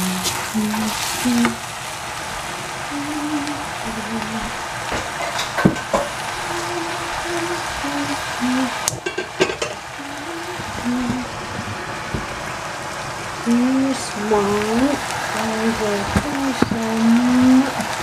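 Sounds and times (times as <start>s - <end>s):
vegetables sizzling in saucepan: 0.0s - 18.0s.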